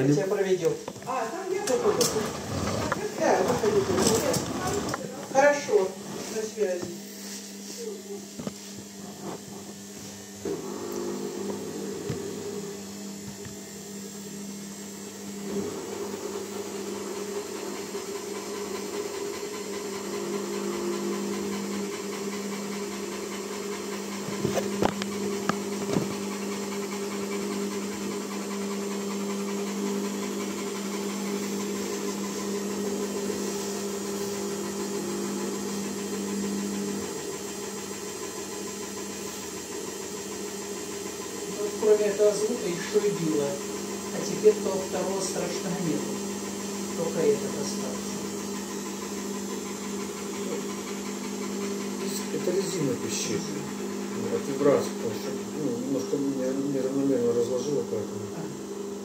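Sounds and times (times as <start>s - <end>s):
washing machine spinning: 0.0s - 7.1s, 8.0s - 59.0s.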